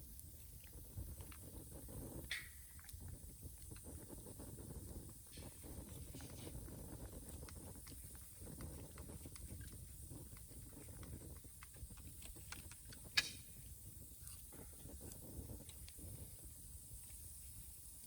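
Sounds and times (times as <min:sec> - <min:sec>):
bonfire crackling and popping: 0:00.2 - 0:16.5.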